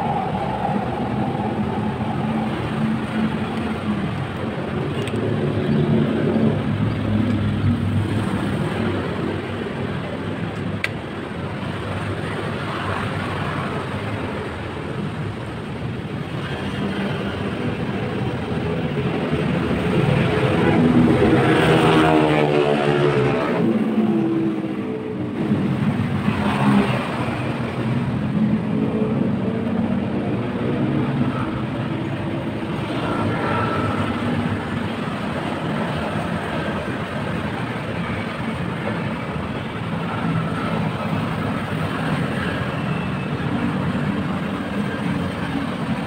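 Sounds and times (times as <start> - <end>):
passing vehicles rumbling: 0.0 - 46.0.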